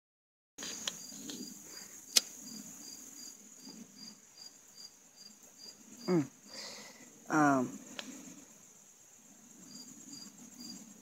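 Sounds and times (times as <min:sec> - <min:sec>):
crickets chirping: 0:00.6 - 0:11.0.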